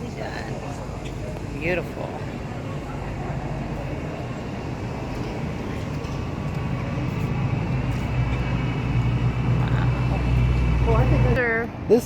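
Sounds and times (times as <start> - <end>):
car engine rumbling: 0.0 - 11.6.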